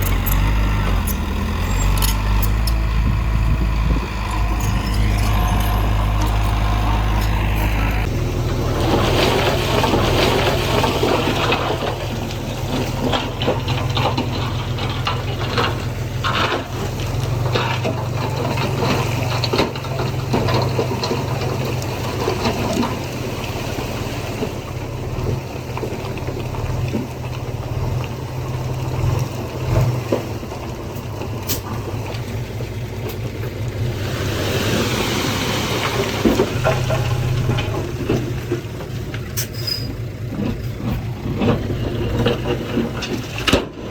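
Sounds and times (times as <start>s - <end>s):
diesel engine running under load: 0.0s - 43.9s
soil and stones sliding: 0.0s - 43.9s.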